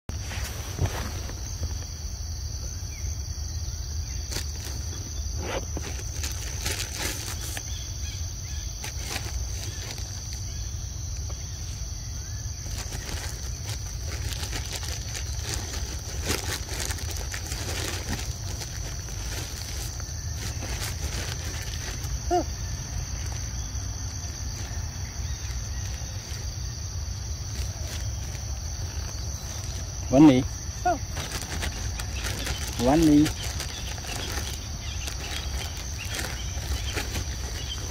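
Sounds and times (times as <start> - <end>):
high-pitched insect drone: 0.9 - 37.9.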